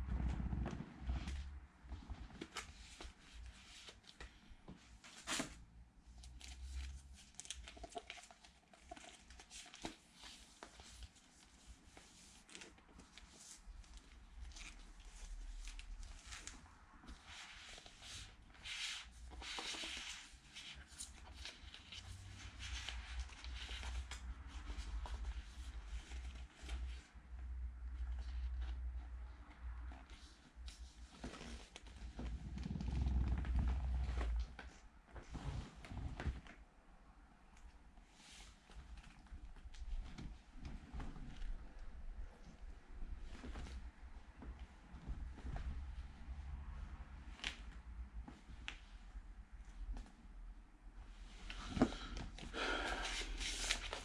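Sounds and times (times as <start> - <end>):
plastic sleeves rustling: 0.0 - 36.6, 38.0 - 46.4, 51.0 - 54.0.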